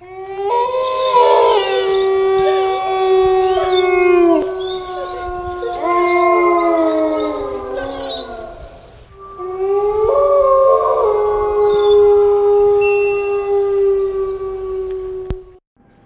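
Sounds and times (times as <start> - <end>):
wolf howling: 0.0 - 15.6.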